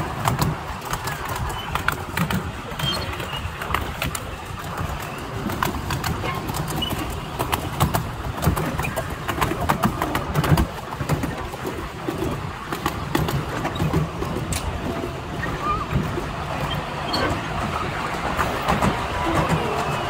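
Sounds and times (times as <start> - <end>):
wheels clattering over rails: 0.0 - 20.0.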